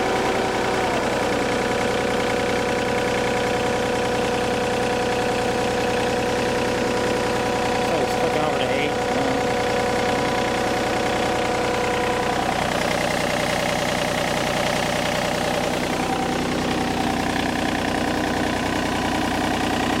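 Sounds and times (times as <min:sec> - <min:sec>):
diesel mower engine running: 0:00.0 - 0:20.0.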